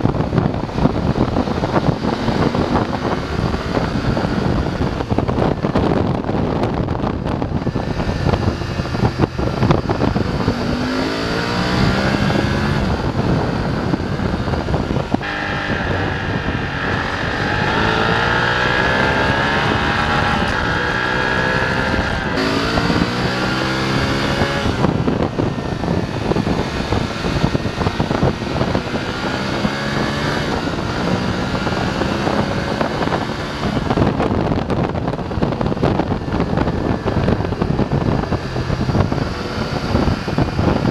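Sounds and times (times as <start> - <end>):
motorcycle engine shifting gears: 0.0 - 40.9
wind noise on microphone: 0.0 - 40.9.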